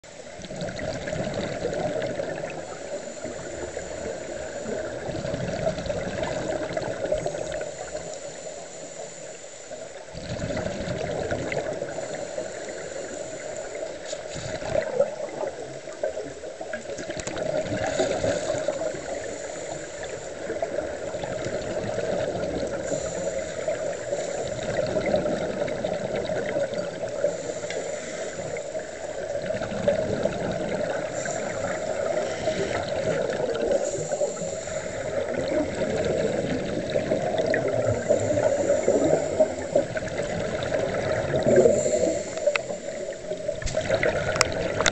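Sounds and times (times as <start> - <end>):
bubbles gurgling underwater: 0.0 - 8.3, 10.0 - 44.9
diver breathing through regulator: 2.6 - 15.0, 17.6 - 20.8, 21.7 - 25.7, 26.7 - 44.9.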